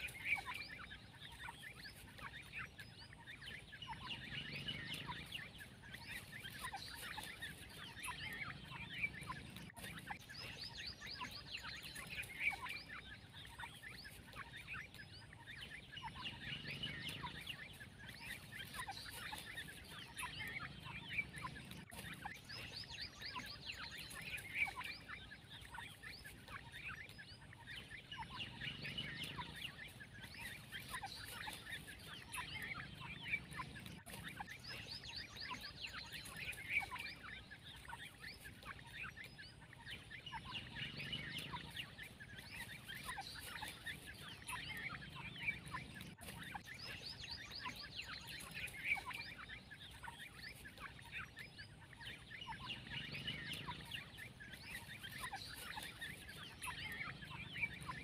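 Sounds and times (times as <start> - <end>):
young birds chirping: 0.0 - 58.0.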